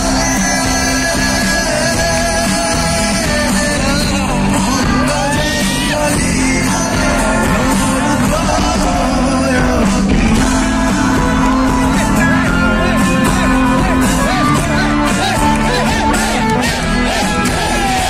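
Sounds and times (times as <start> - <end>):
crowd yelling: 0.0 - 18.0
live rock band with singing: 0.0 - 18.0.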